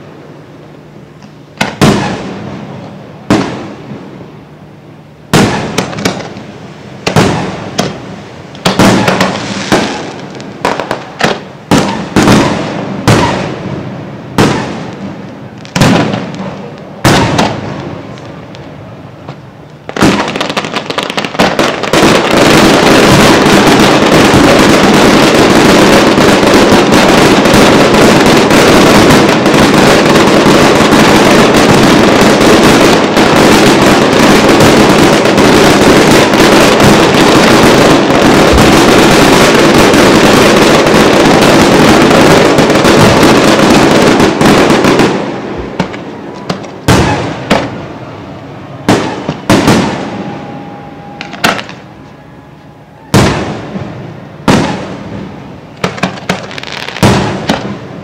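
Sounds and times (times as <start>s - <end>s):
fireworks bangs and crackling: 0.0s - 52.2s, 53.0s - 58.0s.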